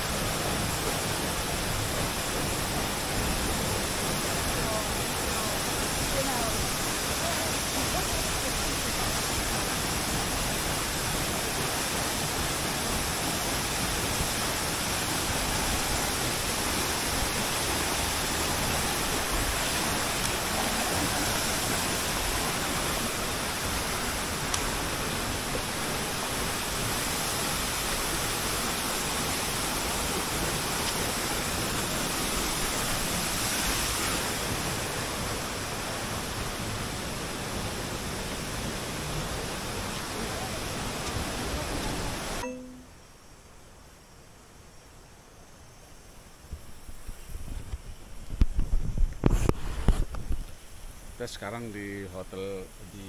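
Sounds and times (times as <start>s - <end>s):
waterfall rushing: 0.0s - 42.5s
stream running: 0.0s - 42.7s, 46.1s - 53.0s.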